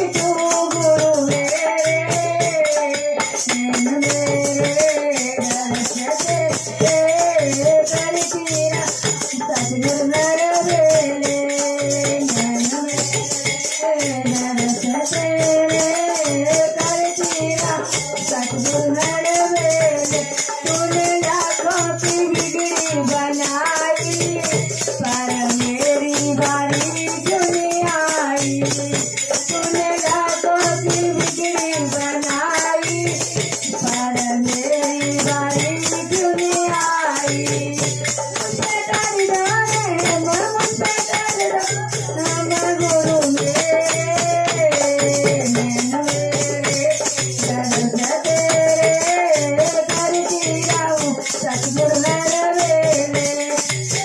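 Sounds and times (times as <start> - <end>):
hand drum beat: 0.0 - 54.0
women singing devotional song: 0.0 - 54.0.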